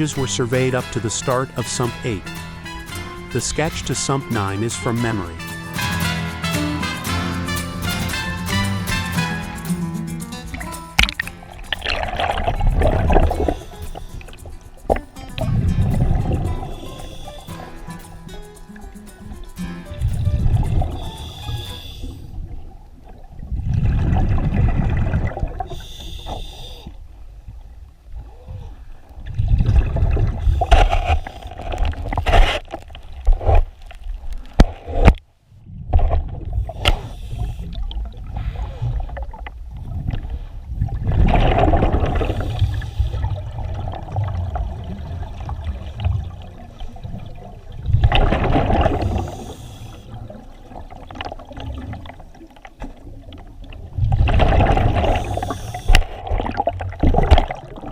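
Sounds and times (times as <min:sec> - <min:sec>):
water gurgling and sloshing: 0:09.3 - 0:57.9.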